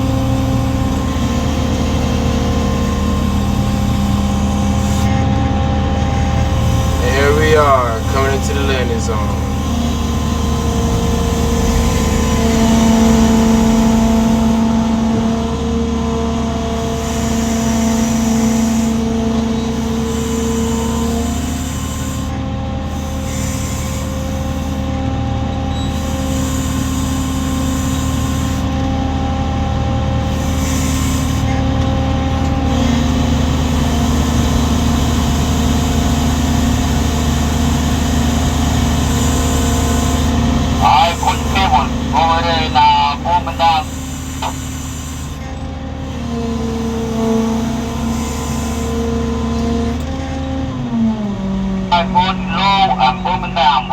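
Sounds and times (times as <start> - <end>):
crane diesel engine and hydraulics: 0.0 - 53.9.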